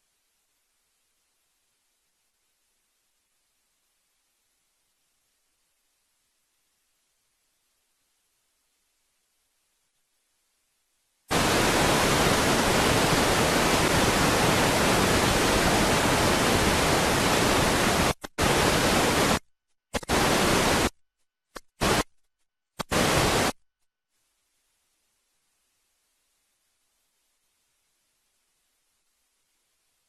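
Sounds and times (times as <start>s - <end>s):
static hiss: 0.0s - 19.4s, 20.0s - 20.9s, 21.6s - 22.1s, 22.8s - 23.6s, 24.2s - 30.0s.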